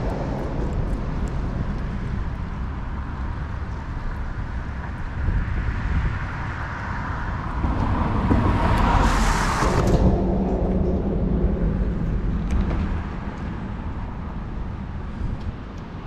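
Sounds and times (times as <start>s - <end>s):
road traffic: 0.0s - 16.0s
wind rumbling on microphone: 0.0s - 16.0s.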